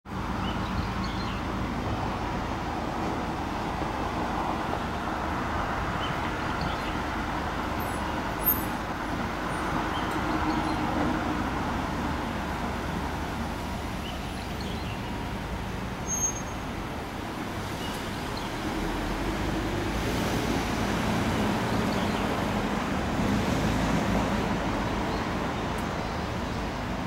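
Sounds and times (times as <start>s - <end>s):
rumble of passing cars: 0.1s - 27.0s.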